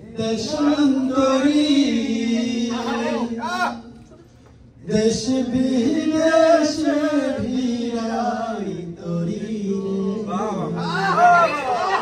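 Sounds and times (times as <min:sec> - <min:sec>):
man singing into a microphone: 0:00.0 - 0:03.9, 0:04.8 - 0:11.2.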